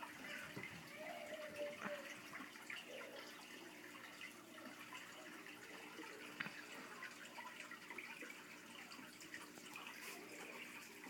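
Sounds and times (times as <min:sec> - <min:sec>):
aquarium water trickling and bubbling: 0:00.0 - 0:11.0.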